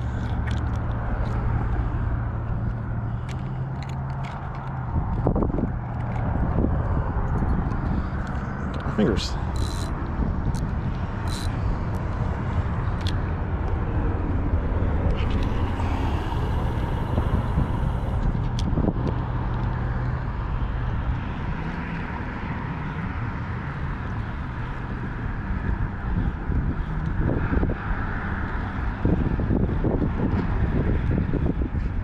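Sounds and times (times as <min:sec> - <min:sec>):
vehicle passing: 0:00.0 - 0:31.7
road traffic rumble: 0:00.0 - 0:32.0.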